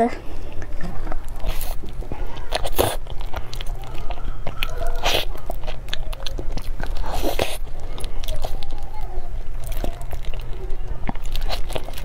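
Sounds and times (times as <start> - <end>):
person eating wet chewing: 0.2 - 12.0.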